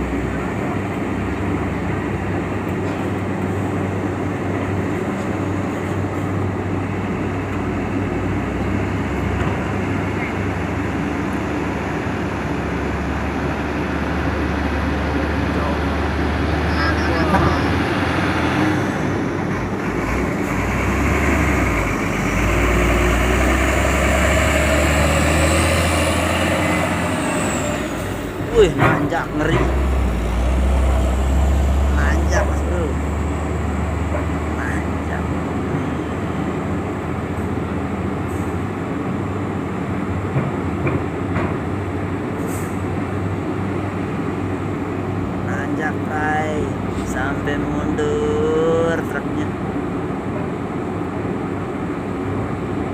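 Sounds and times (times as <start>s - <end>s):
truck diesel engine rumbling: 0.0s - 52.9s.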